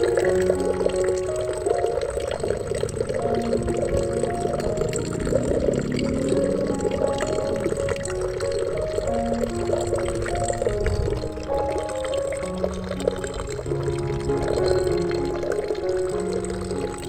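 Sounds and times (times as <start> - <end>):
running water: 0.0 - 17.0
soft held musical notes: 0.0 - 17.0.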